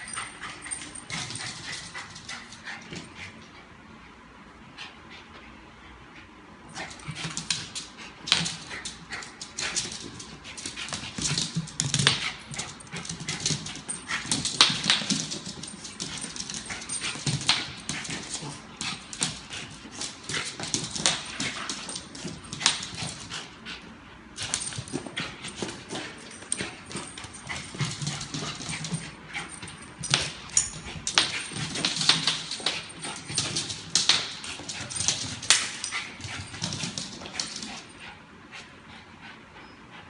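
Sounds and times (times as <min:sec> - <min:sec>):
dog claws clicking on floor: 0:00.0 - 0:03.2, 0:06.7 - 0:23.5, 0:24.4 - 0:38.1.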